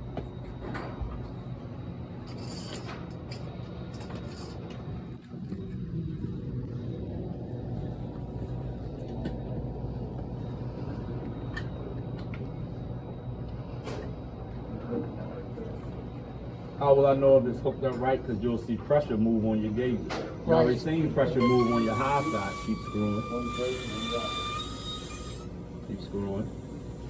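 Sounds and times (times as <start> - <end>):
air conditioner unit humming: 0.0 - 27.0.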